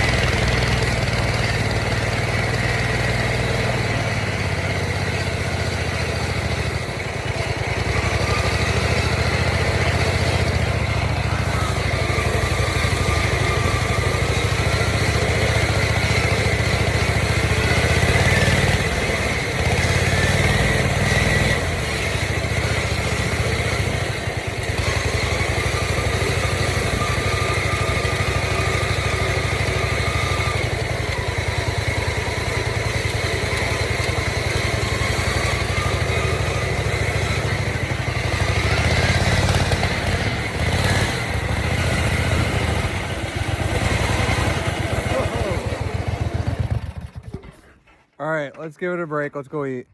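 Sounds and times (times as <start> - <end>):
lawn mower engine running: 0.0 - 48.7.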